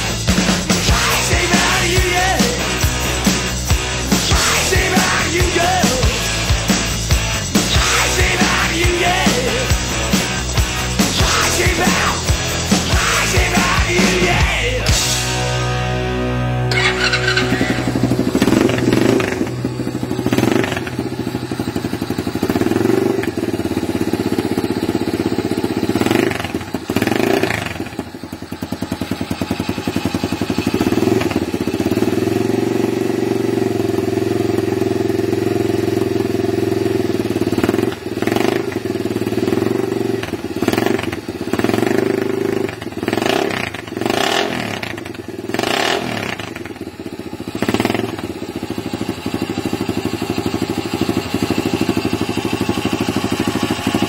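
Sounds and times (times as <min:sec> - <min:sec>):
minibike engine revving: 0:00.0 - 0:54.0.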